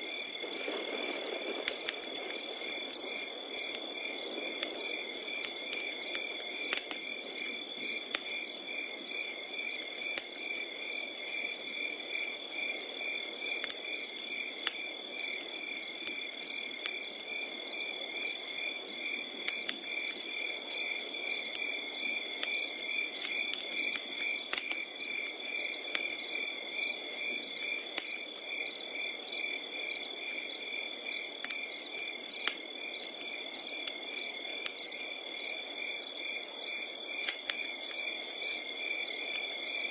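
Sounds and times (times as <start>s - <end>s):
sharp pops from fire: 0.0s - 10.7s, 12.1s - 17.8s, 18.4s - 29.2s, 30.1s - 39.9s
crackling campfire: 0.0s - 39.9s
crickets chirping: 0.0s - 39.9s.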